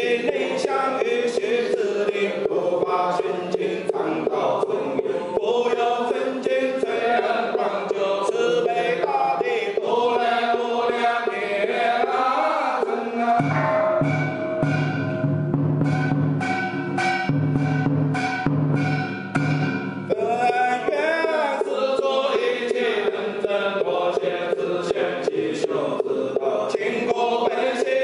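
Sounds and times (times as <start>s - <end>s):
priests chanting in unison: 0.0s - 15.5s, 20.1s - 28.0s.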